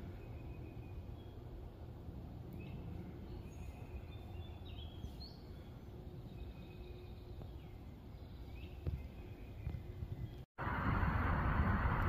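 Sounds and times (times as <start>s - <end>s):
songbirds chirping and whistling: 0.0s - 10.5s
low background rumble: 0.0s - 12.0s.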